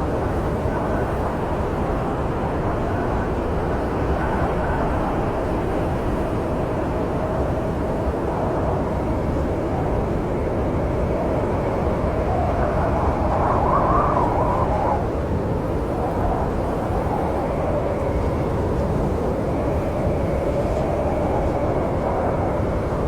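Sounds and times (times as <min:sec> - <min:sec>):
howling wind: 0:00.0 - 0:23.0.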